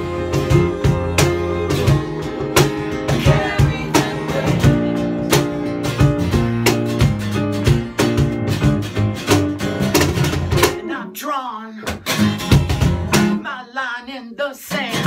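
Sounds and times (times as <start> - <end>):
strummed acoustic guitar: 0.0 - 13.8, 14.7 - 15.0.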